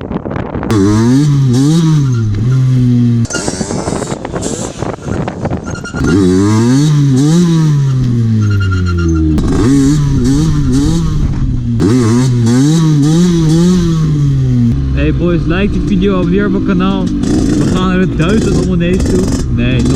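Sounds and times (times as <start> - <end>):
two-stroke engine revving: 0.7 - 4.9, 5.9 - 19.9.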